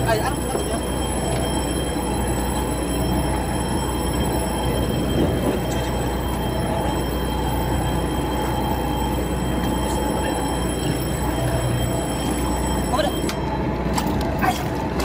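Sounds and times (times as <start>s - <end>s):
boat engine rumbling: 0.0s - 15.0s
engine high whines: 0.0s - 15.0s.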